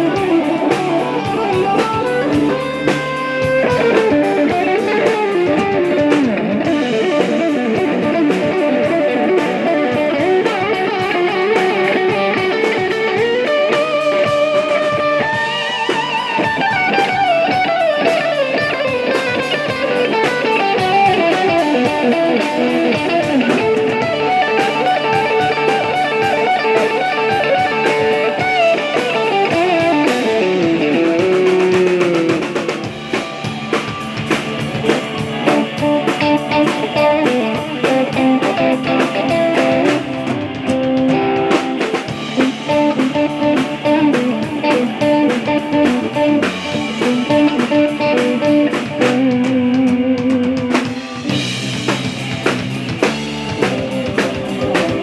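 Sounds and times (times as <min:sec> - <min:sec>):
rock music with electric guitar: 0:00.0 - 0:55.0.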